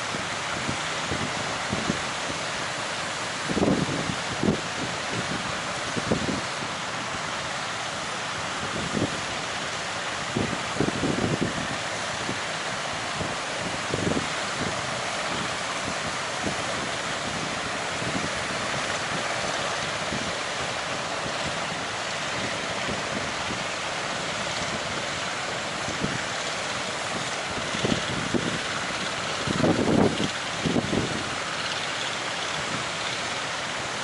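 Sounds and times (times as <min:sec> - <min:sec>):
ocean surf: 0:00.0 - 0:34.0
strong wind: 0:00.0 - 0:34.0
wind buffeting microphone: 0:00.0 - 0:34.0.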